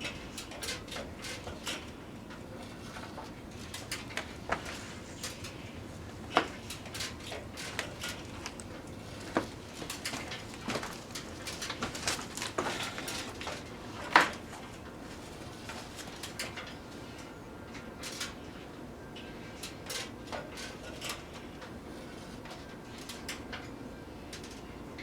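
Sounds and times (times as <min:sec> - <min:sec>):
microwave ovens running: 0:00.0 - 0:25.0.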